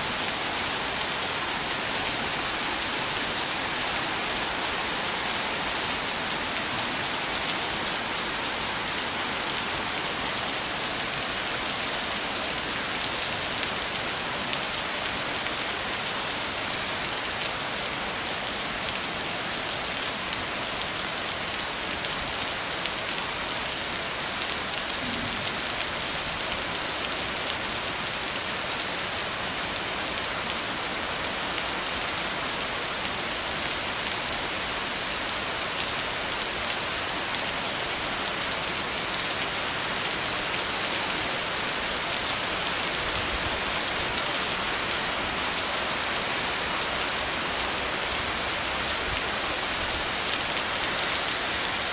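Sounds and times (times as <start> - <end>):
heavy rain on flooded ground: 0.0 - 51.9.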